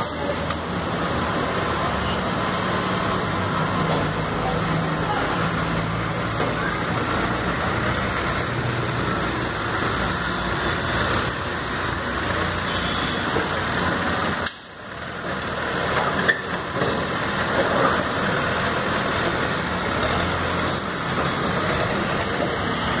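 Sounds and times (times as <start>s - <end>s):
backhoe diesel engine: 0.0s - 23.0s
road traffic: 0.0s - 23.0s.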